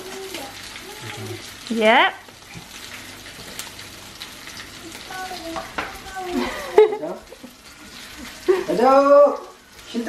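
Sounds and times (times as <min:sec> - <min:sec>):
food sizzling in pans: 0:00.0 - 0:10.0.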